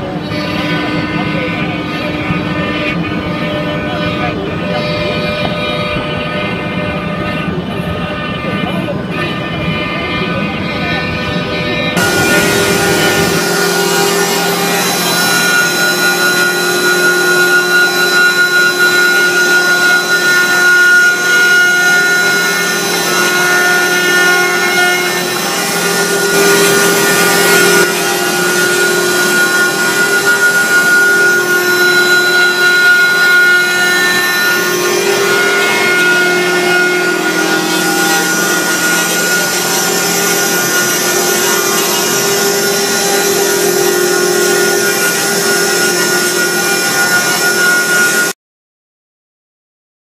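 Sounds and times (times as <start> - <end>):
bit rasping turning wood: 0.0 - 48.4
router spindle whining: 0.0 - 48.4.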